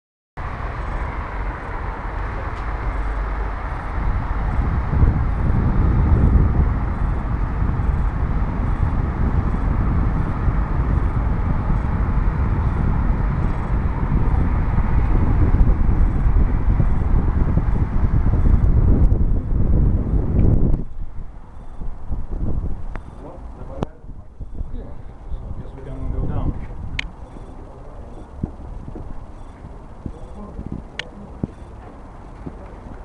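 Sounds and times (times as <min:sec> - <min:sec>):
wind buffeting microphone: 0:00.4 - 0:33.0.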